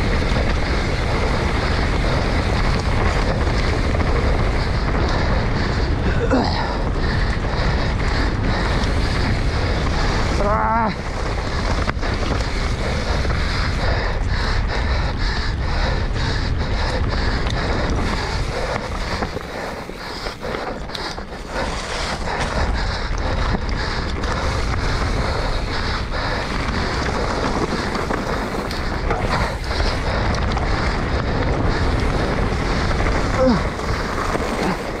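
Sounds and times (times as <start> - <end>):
bike rattling clicks and knocks: 0.0 - 35.0
tyres rolling on dirt trail: 0.0 - 35.0
wind on microphone: 0.0 - 35.0.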